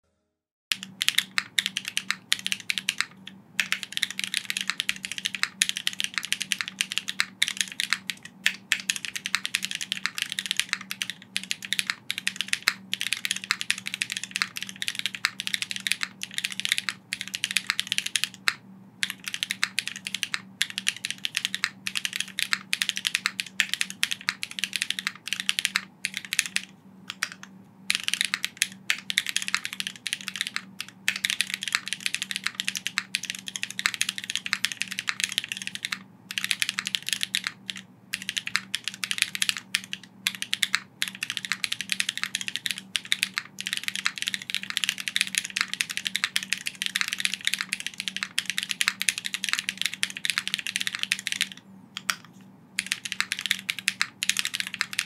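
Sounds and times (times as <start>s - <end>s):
fast typing on mechanical keyboard: 0.7s - 55.0s.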